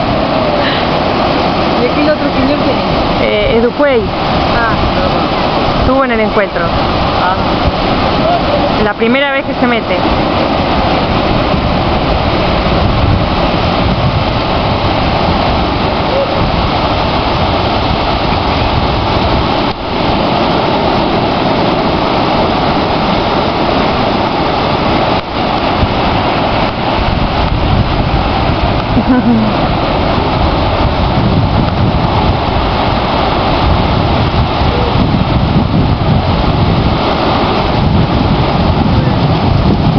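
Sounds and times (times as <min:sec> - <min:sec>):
surf breaking on beach: 0:00.0 - 0:39.9
wind rumbling on microphone: 0:00.0 - 0:39.9.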